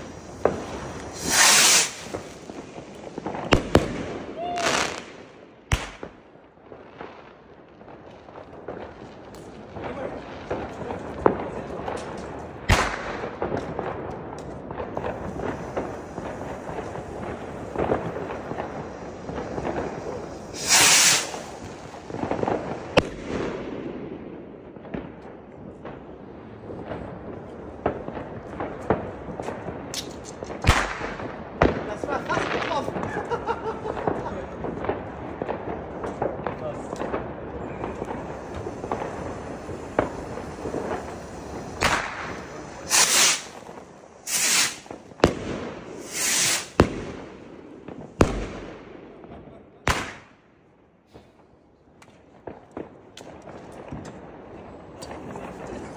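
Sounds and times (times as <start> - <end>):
faint crackle of climbing rocket: 0.0 - 3.8, 7.3 - 23.3, 24.9 - 48.3, 51.1 - 55.9
firework bang: 0.0 - 6.2, 8.6 - 25.2, 26.7 - 50.4.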